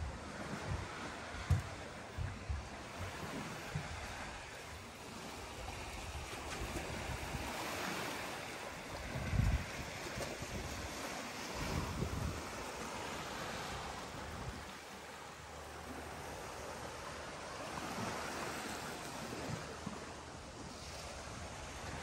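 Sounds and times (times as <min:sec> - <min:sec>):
sea surf rushing: 0:00.0 - 0:22.0
wind buffeting microphone: 0:00.0 - 0:22.0.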